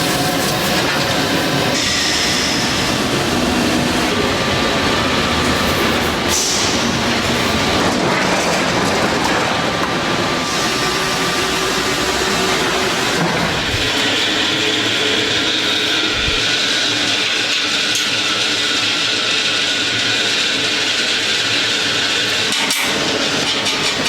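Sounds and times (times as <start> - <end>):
metalworking machine and tool noise: 0.0 - 24.0.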